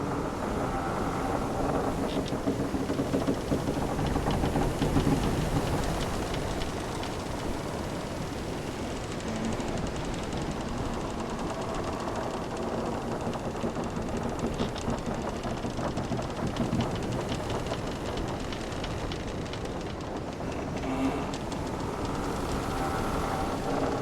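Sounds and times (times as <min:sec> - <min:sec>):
wooden ship timbers creaking: 0:00.0 - 0:24.0.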